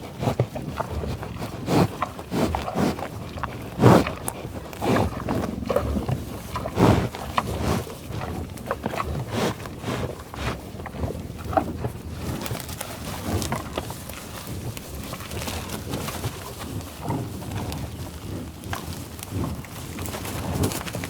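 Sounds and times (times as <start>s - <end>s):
buffalo grunting: 0.0s - 20.8s.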